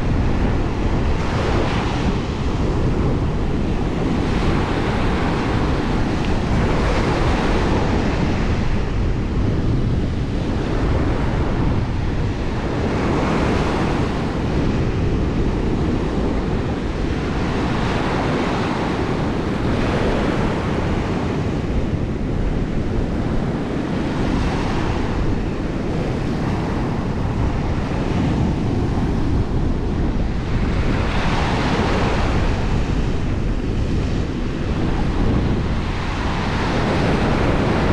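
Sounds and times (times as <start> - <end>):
sea waves breaking on shore: 0.0 - 37.9
wind on microphone: 0.0 - 37.9.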